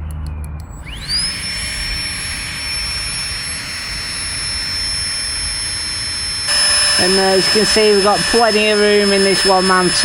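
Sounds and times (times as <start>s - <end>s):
air pump whine: 0.6s - 10.0s.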